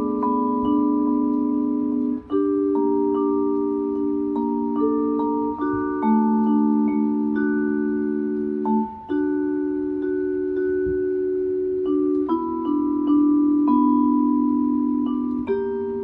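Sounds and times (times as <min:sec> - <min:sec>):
vibraphone chords and melody: 0:00.0 - 0:16.0.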